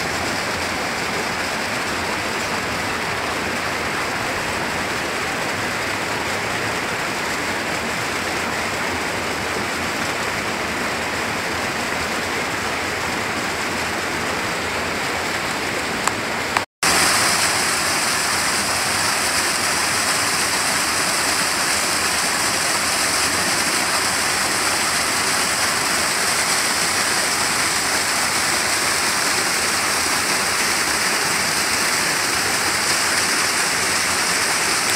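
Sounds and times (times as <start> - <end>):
flowing stream water: 0.0 - 34.9
waterfall cascading over boulders: 0.0 - 34.9.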